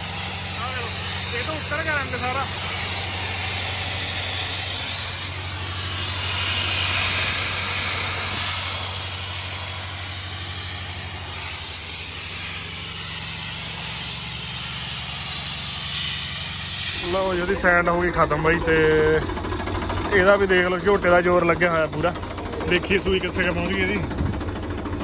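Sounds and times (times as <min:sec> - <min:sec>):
sandblasting nozzle hissing: 0:00.0 - 0:24.9
tractor engine drone: 0:00.0 - 0:25.0.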